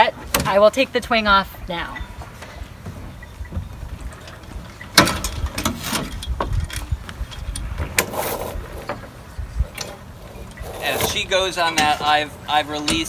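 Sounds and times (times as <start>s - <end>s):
wind rumble on microphone: 1.1s - 12.0s.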